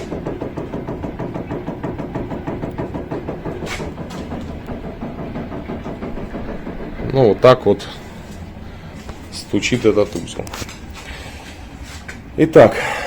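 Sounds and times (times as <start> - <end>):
steering rack knocking: 0.0 - 11.2.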